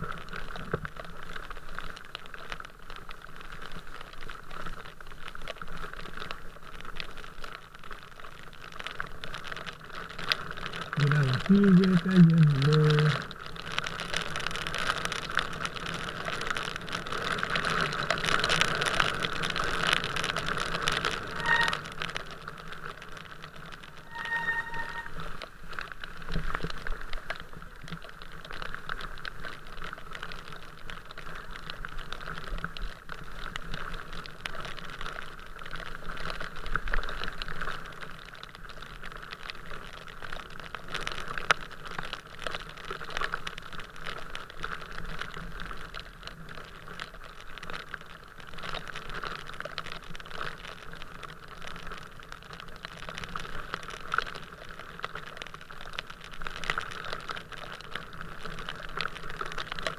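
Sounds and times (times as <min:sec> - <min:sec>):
rain pattering on camera housing: 0:00.0 - 0:59.9.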